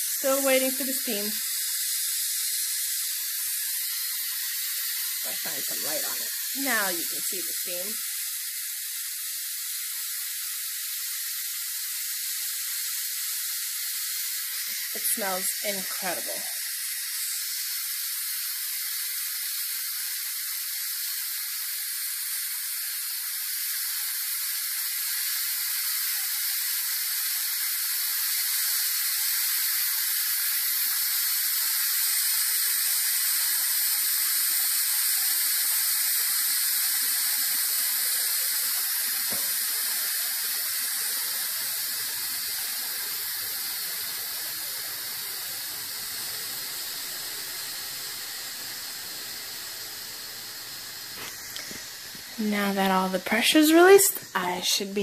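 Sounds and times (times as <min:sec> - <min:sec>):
pressure cooker venting steam: 0:00.0 - 0:55.0.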